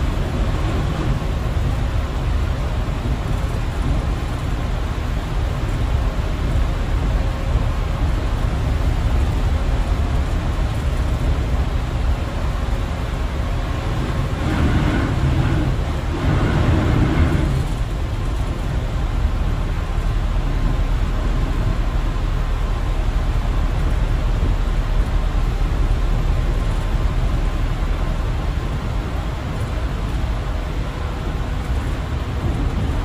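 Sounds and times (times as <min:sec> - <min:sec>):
bus engine and tyre rumble: 0:00.0 - 0:33.0.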